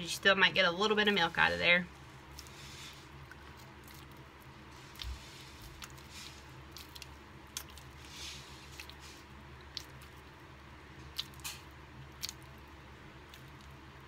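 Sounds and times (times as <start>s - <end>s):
wet squishing of kneading hands: 0.2s - 14.0s.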